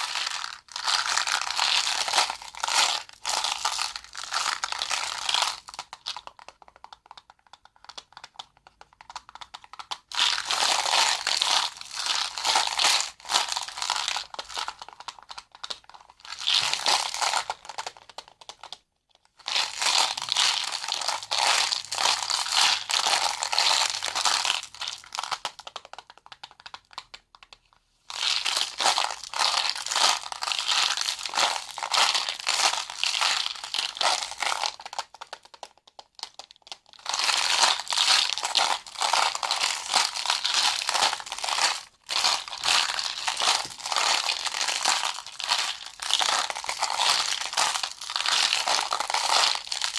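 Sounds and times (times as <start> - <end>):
crinkling handled by hand: 0.0 - 49.9.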